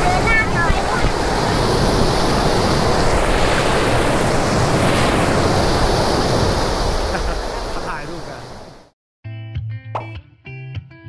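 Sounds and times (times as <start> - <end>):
waterfall rushing: 0.0 - 8.9
wind buffeting microphone: 0.0 - 8.9.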